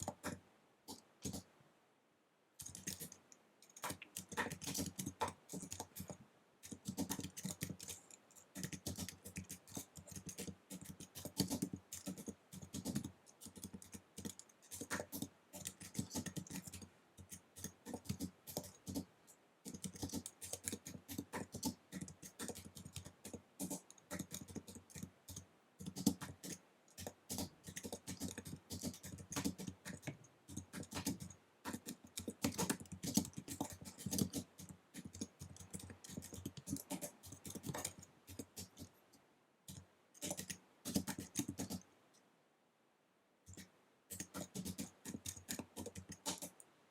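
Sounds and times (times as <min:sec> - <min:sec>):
fast typing on keyboard: 0:00.0 - 0:01.5, 0:02.6 - 0:38.9, 0:39.7 - 0:41.9, 0:43.5 - 0:46.6.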